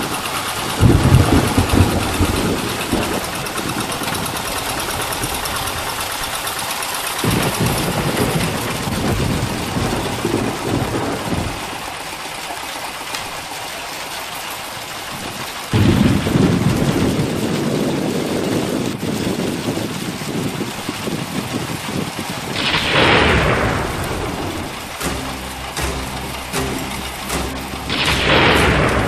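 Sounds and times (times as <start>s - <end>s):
low rumbles: 0.0s - 12.5s, 15.1s - 29.0s
heavy rain hissing: 0.0s - 29.0s.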